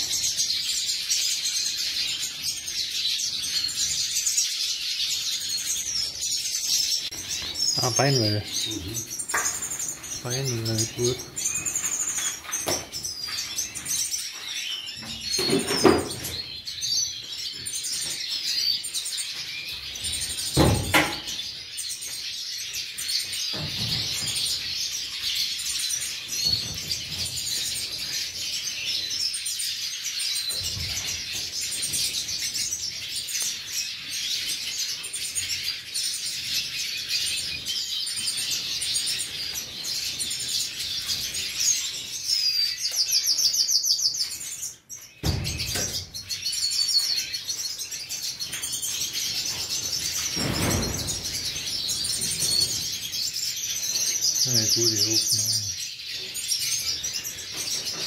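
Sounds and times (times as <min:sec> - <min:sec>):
birds twittering and chirping: 0:00.0 - 0:58.0.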